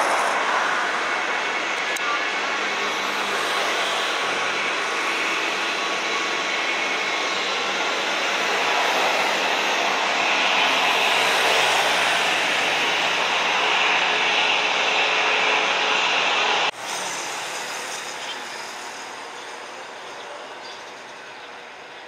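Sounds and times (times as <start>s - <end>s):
jet engines running loudly: 0.0s - 22.0s
steady rushing noise: 0.0s - 22.0s.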